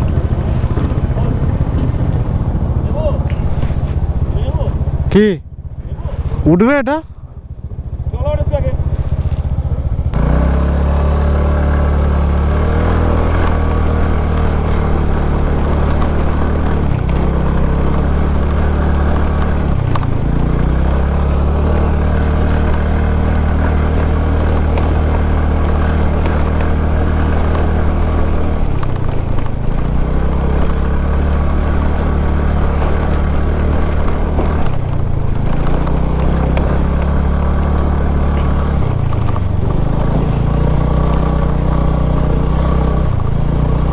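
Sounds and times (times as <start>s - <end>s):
small motorbike engine revving: 7.8s - 43.9s.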